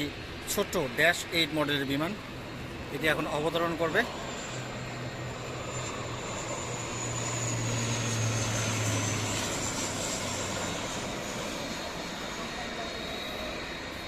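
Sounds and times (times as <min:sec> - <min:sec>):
turboprop airliner flying past: 0:00.0 - 0:14.0.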